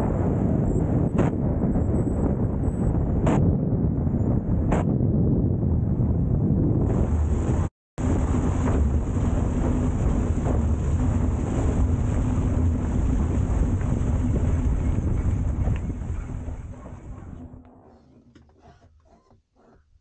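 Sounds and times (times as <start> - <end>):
wind buffeting microphone: 0.0 - 17.7
ultralight engine and propeller: 0.0 - 18.5.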